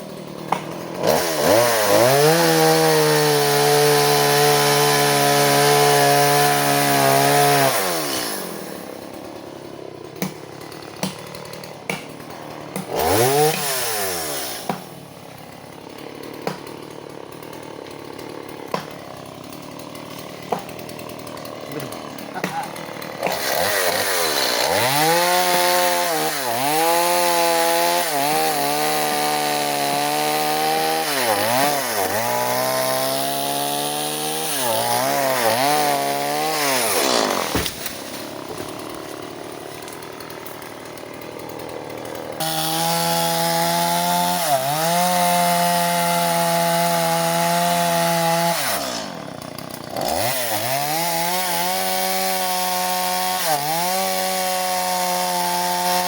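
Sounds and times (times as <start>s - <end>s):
chainsaw cutting branches: 0.0s - 56.0s.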